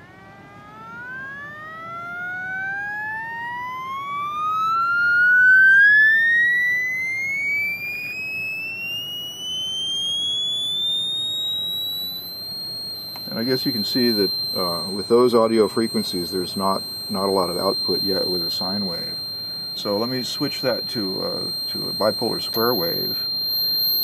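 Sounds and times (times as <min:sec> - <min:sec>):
buzzer tone rising in pitch: 0:00.0 - 0:24.0.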